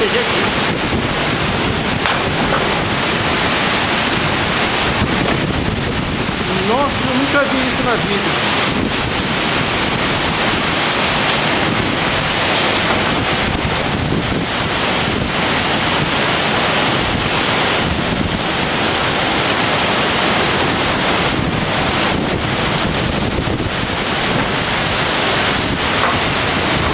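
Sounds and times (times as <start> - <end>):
heavy rain: 0.0 - 26.9
storm wind through trees: 0.0 - 26.9
wind buffeting microphone: 0.0 - 26.9.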